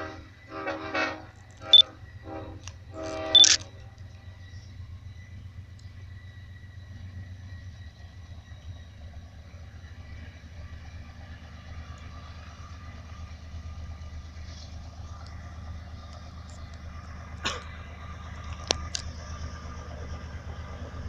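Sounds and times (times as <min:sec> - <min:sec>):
diesel locomotives rumbling: 0:00.0 - 0:21.0.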